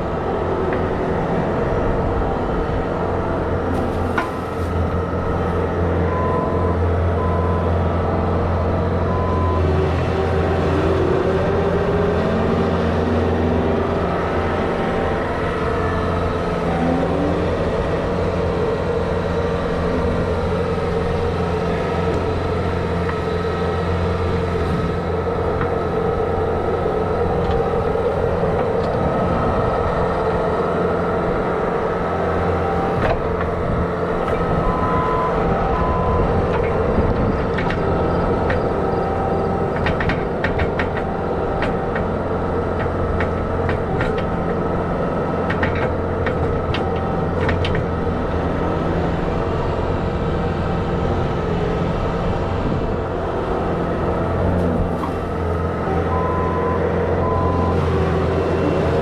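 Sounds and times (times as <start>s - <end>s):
loader engine running: 0.0s - 59.0s.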